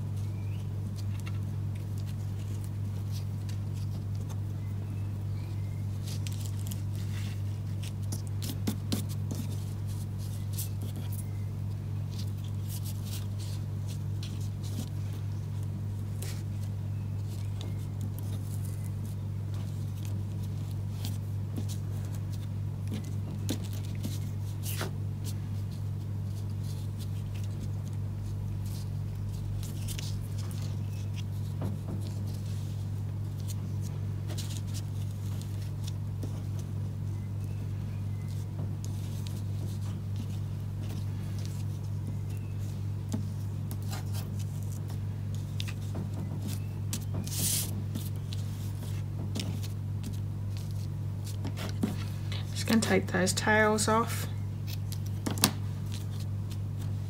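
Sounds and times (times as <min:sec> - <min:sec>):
steady low hum: 0:00.0 - 0:57.0
twine and card rustling: 0:00.0 - 0:57.0.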